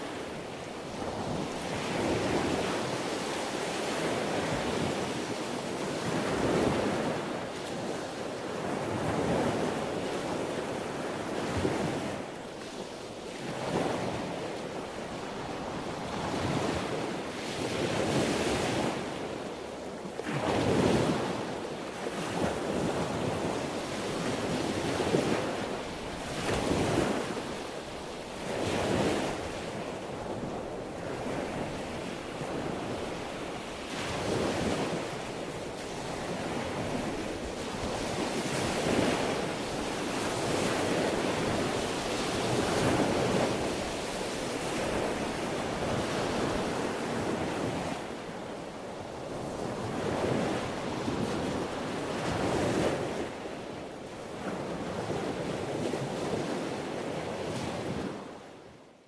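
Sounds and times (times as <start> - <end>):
sea waves breaking on shore: 0.0 - 58.8
wind noise on microphone: 0.0 - 58.8.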